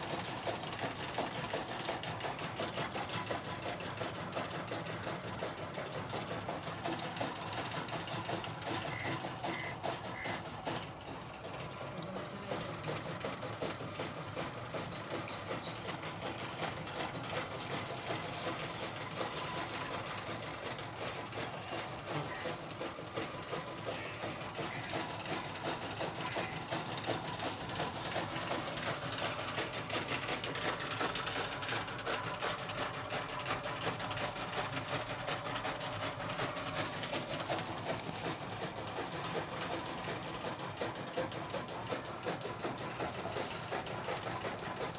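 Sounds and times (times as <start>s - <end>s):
rabbits chewing greens: 0.0s - 44.9s.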